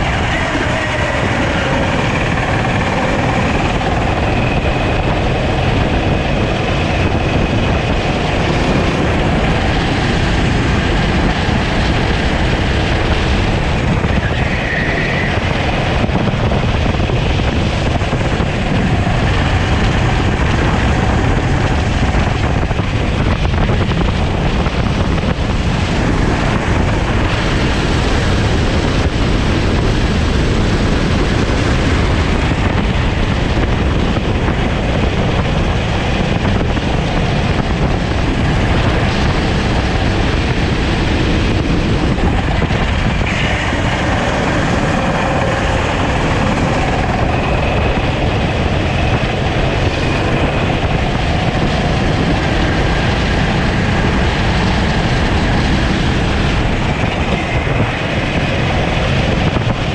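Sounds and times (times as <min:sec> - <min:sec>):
kart engine running hard: 0:00.0 - 0:59.9
wind and road noise: 0:00.0 - 0:59.9.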